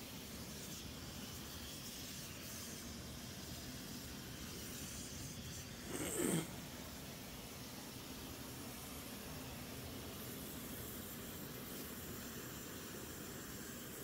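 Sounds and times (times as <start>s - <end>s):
propane torches hissing: 0.0s - 14.0s.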